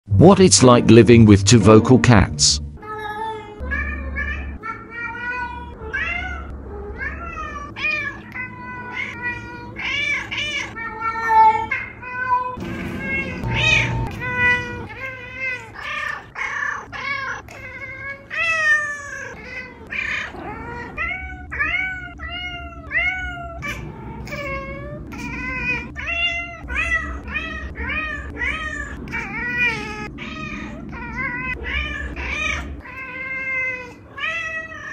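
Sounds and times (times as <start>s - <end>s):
cats meowing: 2.8s - 34.9s.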